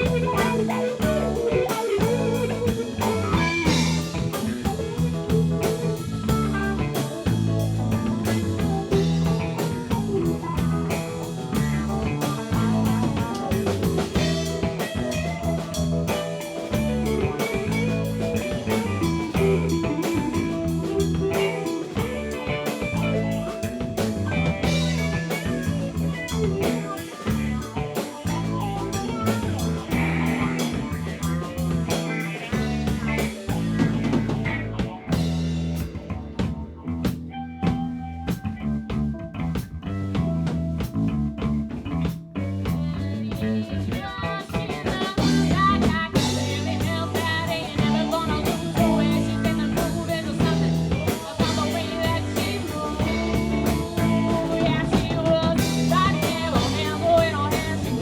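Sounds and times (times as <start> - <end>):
rock band playing blues-rock: 0.0 - 58.0.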